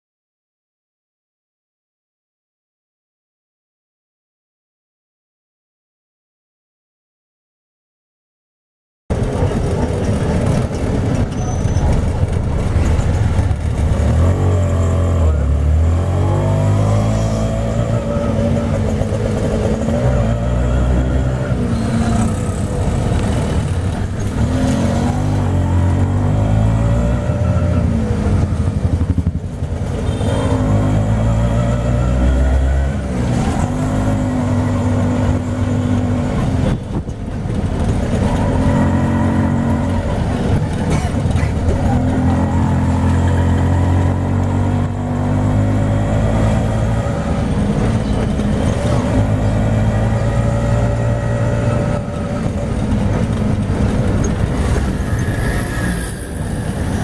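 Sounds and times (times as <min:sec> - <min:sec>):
auto rickshaw engine running: 0:09.1 - 0:57.0.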